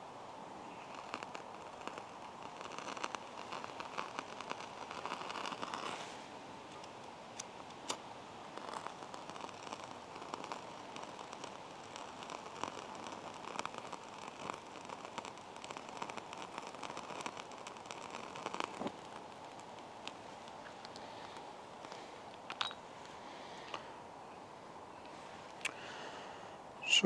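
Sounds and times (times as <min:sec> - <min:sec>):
faint crackling of tinder: 0:00.0 - 0:27.0.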